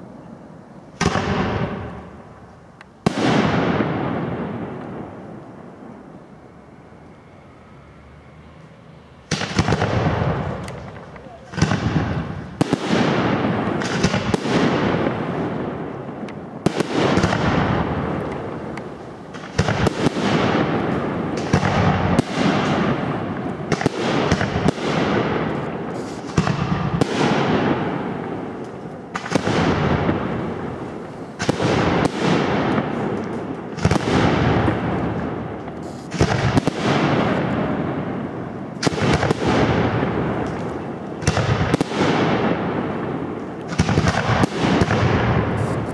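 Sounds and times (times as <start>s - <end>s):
fireworks crackles: 0.0s - 45.9s
fireworks bangs with rolling echo: 0.9s - 7.6s, 9.1s - 45.9s.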